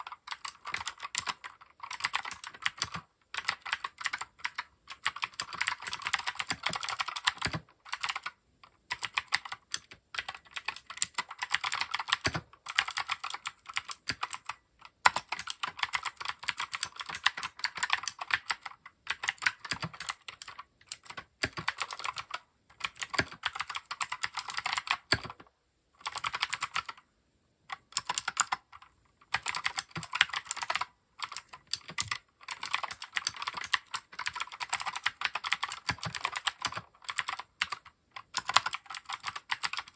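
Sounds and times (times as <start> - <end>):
mechanical keyboard typing: 0.0 - 27.0, 27.7 - 39.9.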